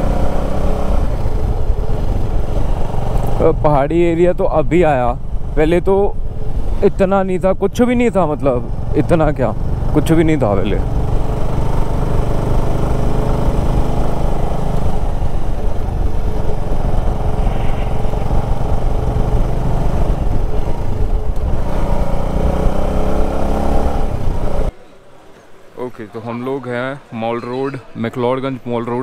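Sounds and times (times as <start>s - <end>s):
motorcycle engine running: 0.0s - 7.3s, 7.9s - 24.7s.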